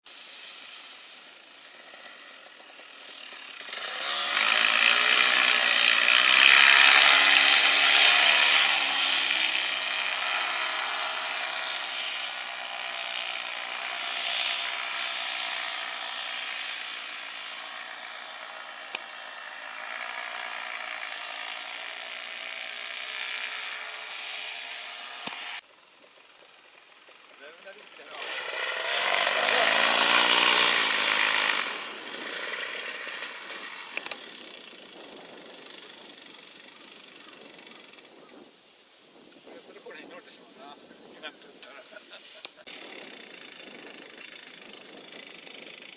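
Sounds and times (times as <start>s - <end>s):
small engine revving high: 0.0s - 25.6s, 27.4s - 38.4s, 41.1s - 45.9s.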